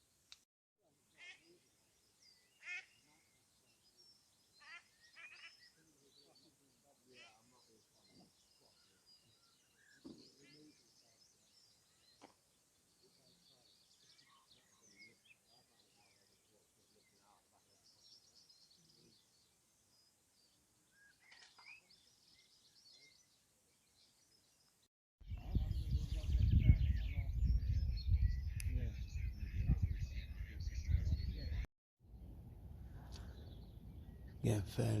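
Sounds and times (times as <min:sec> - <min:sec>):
lakeside ambience: 0:00.0 - 0:26.3, 0:28.4 - 0:35.0
birds chirping and trilling: 0:01.0 - 0:31.7, 0:32.9 - 0:35.0.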